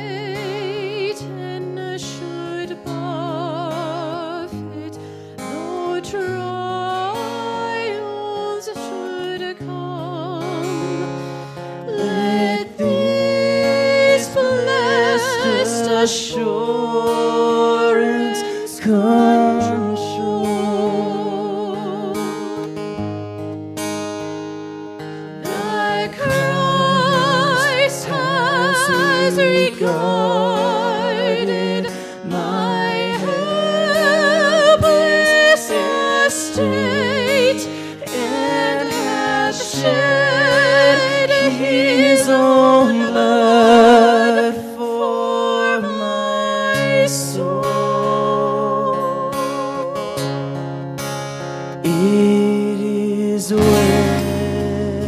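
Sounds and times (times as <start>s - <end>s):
woman and man singing: 0.0s - 22.6s, 25.4s - 50.6s, 51.8s - 55.0s
acoustic guitar: 0.0s - 55.0s.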